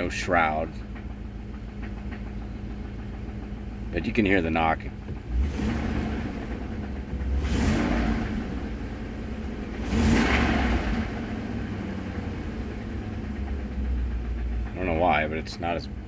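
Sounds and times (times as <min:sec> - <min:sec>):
engine idling with knock: 0:00.0 - 0:16.0.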